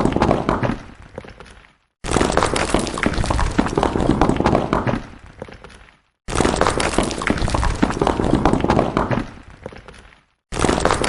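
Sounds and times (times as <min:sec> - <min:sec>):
stones falling and clattering: 0:00.0 - 0:11.0.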